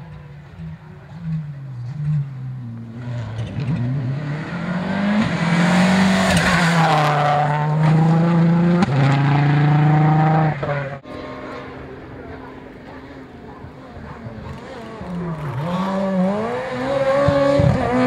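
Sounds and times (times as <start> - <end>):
rally car engine at speed: 0.0 - 18.0.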